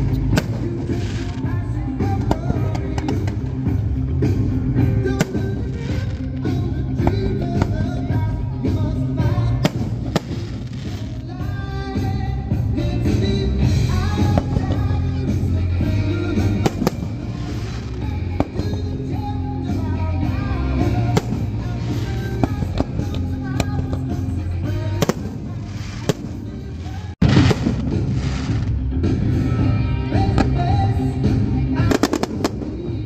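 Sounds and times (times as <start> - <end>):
fireworks bursting: 0.0 - 28.9, 30.2 - 33.0
loud music with singing: 0.0 - 33.0.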